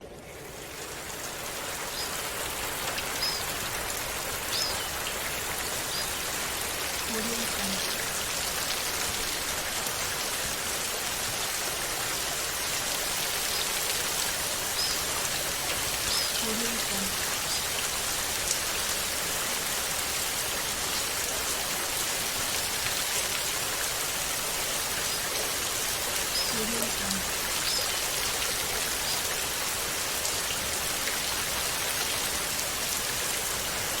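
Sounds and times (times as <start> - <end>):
heavy rain on glass: 0.5 - 34.0.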